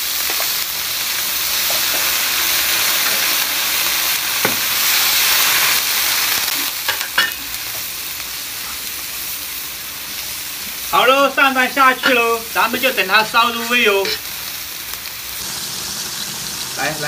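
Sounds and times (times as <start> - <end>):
boiling broth hissing in a wok: 0.0 - 17.0.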